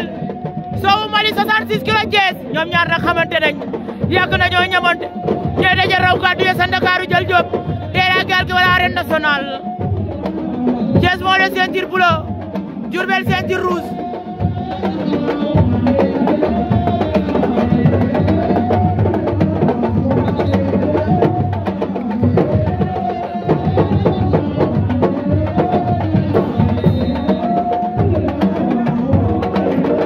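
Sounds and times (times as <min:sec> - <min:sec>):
drums beating rapidly: 0:00.0 - 0:30.0
person singing: 0:03.3 - 0:30.0.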